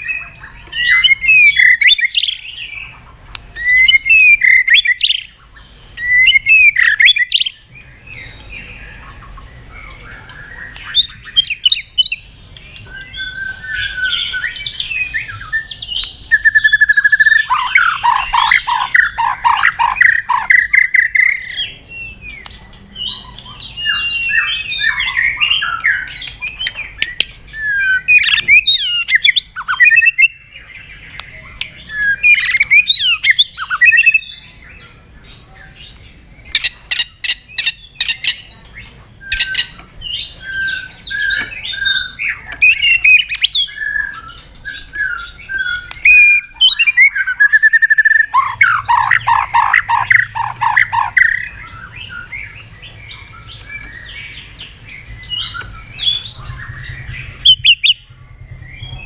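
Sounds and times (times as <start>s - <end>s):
bird singing whistles: 0.0s - 2.7s, 3.6s - 34.5s, 39.2s - 59.0s
harsh repeated bird notes: 0.0s - 59.0s.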